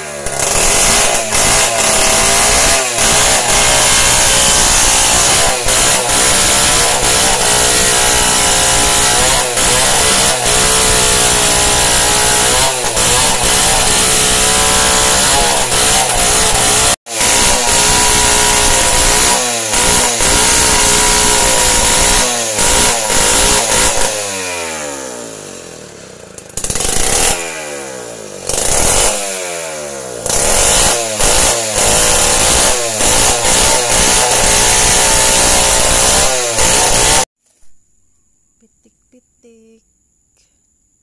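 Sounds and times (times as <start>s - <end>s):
chainsaw cutting wood: 0.0s - 37.3s.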